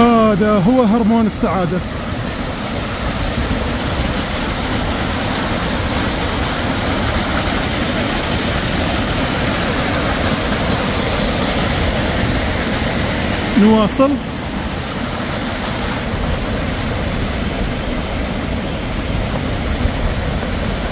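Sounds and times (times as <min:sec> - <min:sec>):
stream rushing over rocks: 0:00.0 - 0:20.9.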